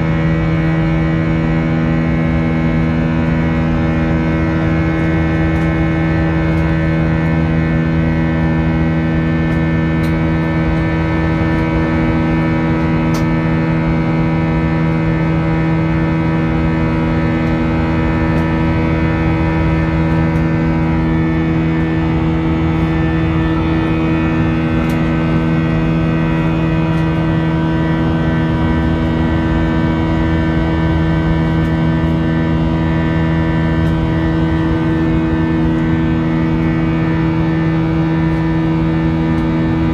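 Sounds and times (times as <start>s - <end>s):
jet engines in airliner cabin: 0.0s - 39.9s.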